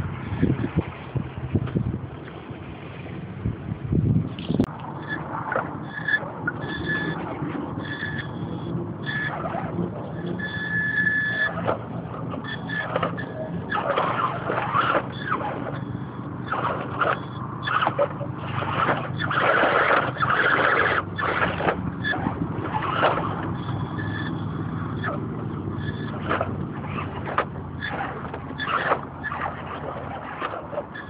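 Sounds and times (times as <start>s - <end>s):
steady low hum: 0.0s - 31.0s
rc car motor whirring: 4.9s - 31.0s.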